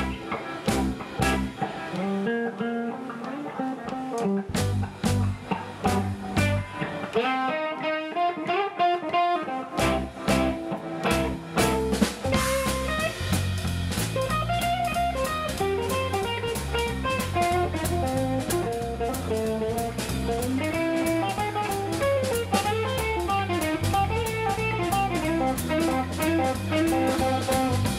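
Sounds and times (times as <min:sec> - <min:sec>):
drum kit: 0:00.0 - 0:27.9
electric bass: 0:00.0 - 0:27.9
electric guitar lead lines: 0:00.0 - 0:27.9.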